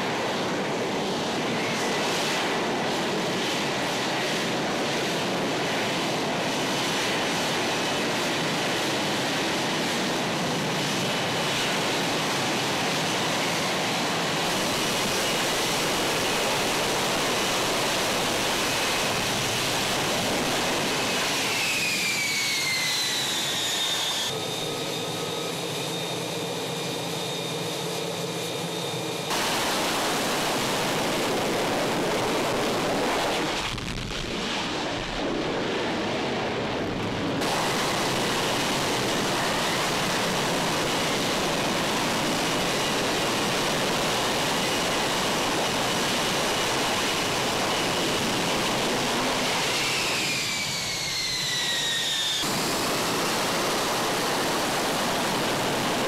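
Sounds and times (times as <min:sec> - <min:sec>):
jet engine roaring: 0:00.0 - 0:56.0.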